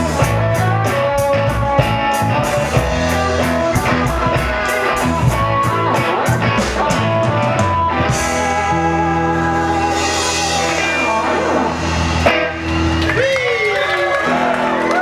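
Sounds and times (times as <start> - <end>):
bass guitar: 0.0 - 15.0
drum kit: 0.0 - 15.0
guitar chords: 0.0 - 15.0.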